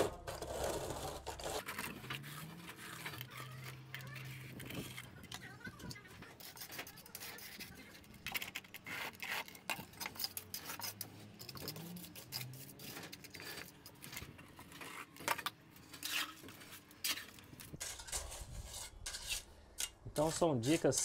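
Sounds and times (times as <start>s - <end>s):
trowel scraping wet concrete: 0.0s - 21.0s.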